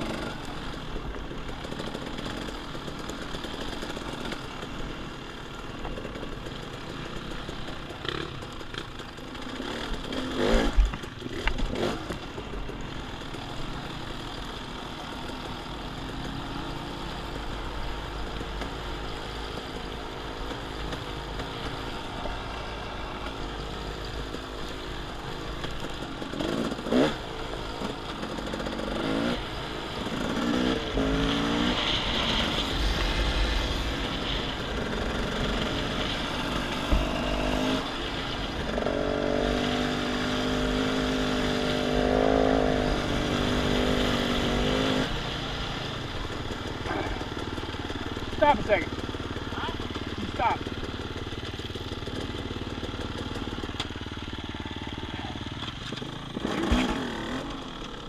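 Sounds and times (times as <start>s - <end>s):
dirt bike engine revving: 6.0s - 45.6s, 46.7s - 58.0s.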